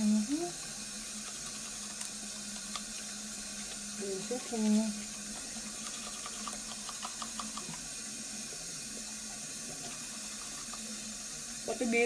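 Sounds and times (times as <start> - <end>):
toothbrush scrubbing teeth: 0.2 - 12.0.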